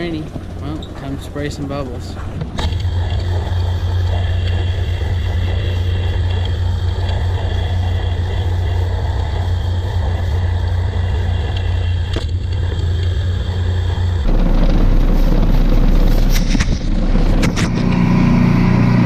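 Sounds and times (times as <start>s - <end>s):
pressure washer running: 0.0s - 19.0s
deep loud engine note: 2.7s - 19.0s.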